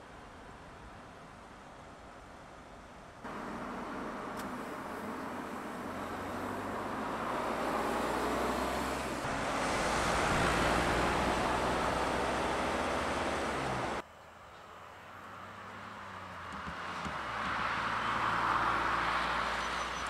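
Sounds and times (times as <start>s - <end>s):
car engine hum: 3.2s - 20.0s.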